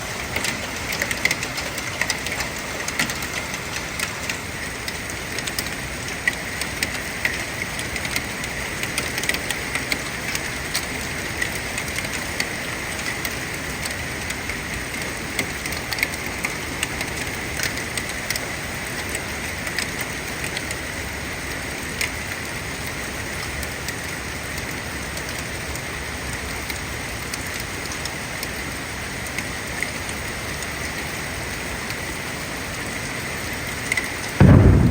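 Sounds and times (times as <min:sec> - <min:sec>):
heavy rain hissing: 0:00.0 - 0:26.2, 0:26.9 - 0:34.9
hailstones ticking on hard surfaces: 0:00.0 - 0:34.9.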